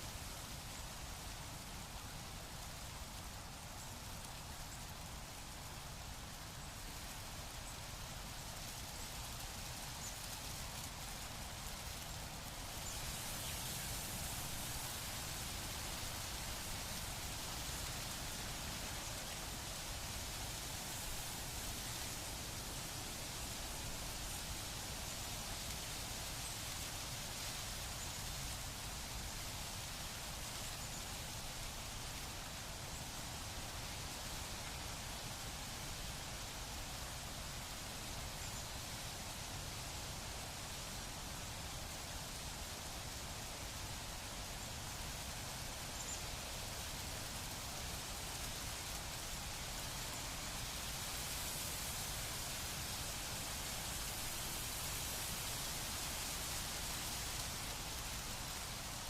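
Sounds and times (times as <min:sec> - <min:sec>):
wind rustling leaves: 0:00.0 - 0:59.0.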